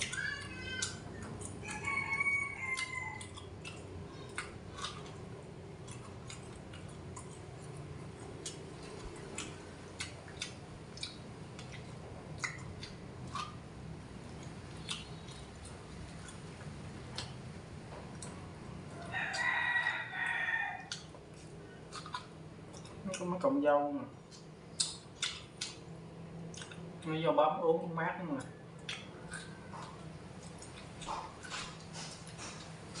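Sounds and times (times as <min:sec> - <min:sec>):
person chewing corn: 0:00.0 - 0:23.5, 0:24.2 - 0:27.1, 0:28.4 - 0:33.0.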